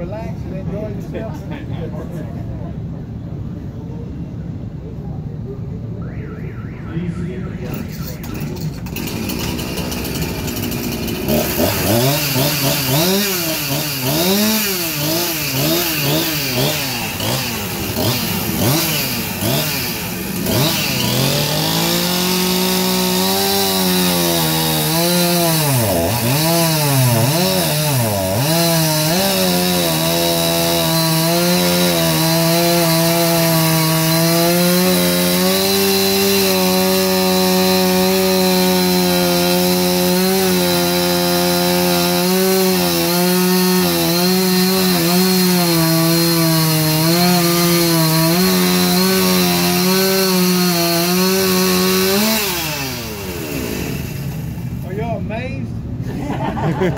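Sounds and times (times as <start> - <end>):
chainsaw cutting wood: 8.2 - 54.8.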